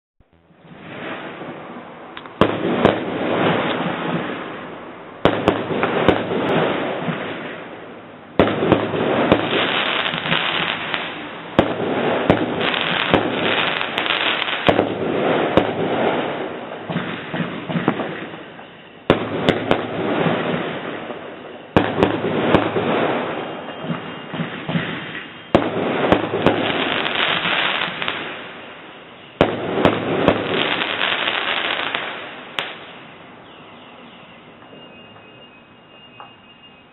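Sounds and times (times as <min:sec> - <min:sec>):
firework crackles: 0:00.3 - 0:33.4
fireworks bangs: 0:00.3 - 0:33.4.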